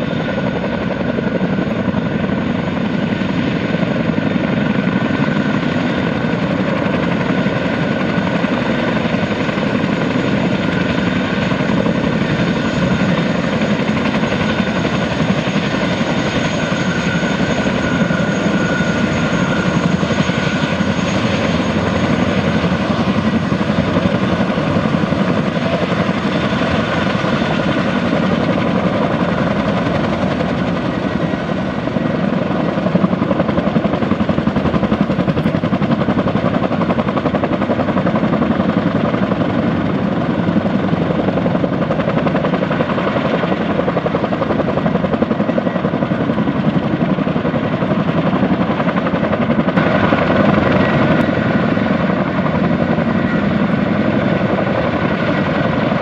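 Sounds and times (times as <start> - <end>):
helicopter rotor chop: 0.0 - 56.0
turbine engine whine: 0.0 - 56.0.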